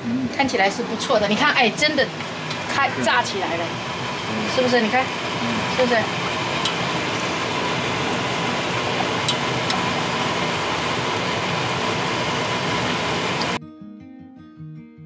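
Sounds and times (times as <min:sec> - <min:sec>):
dough deep-frying in oil: 0:00.3 - 0:13.6
oil popping: 0:01.2 - 0:13.6.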